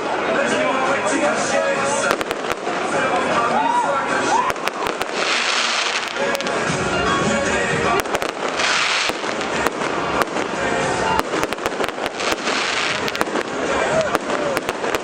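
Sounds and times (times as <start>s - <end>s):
music: 0.0s - 15.0s
fireworks hissing crackle: 1.3s - 15.0s
fireworks popping and cracking: 1.8s - 3.5s, 4.2s - 15.0s.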